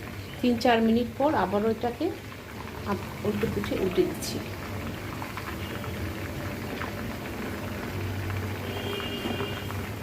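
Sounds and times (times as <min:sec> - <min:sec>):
hot oil bubbling and crackling: 0:00.0 - 0:10.0.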